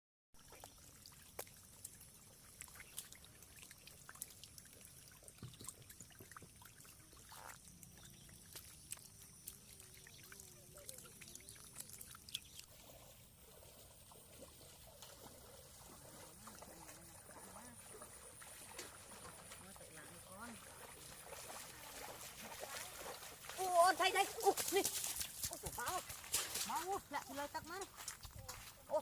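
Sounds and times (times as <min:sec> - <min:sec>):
water trickling and splashing: 0:00.4 - 0:29.0.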